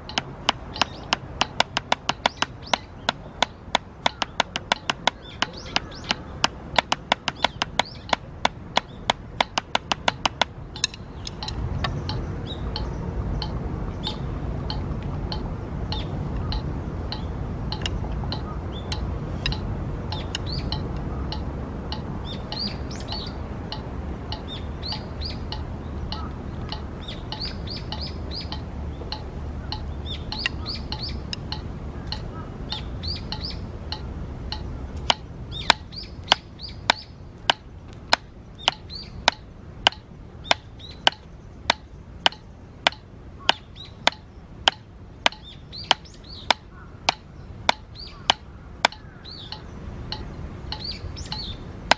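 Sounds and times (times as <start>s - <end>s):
drumsticks tapping practice pad: 0.0s - 51.9s
small birds chirping: 0.0s - 51.9s.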